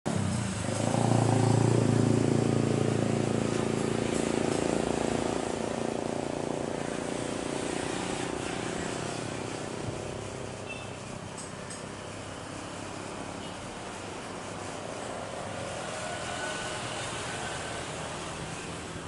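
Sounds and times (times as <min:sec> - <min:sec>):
engine droning: 0:00.1 - 0:19.0.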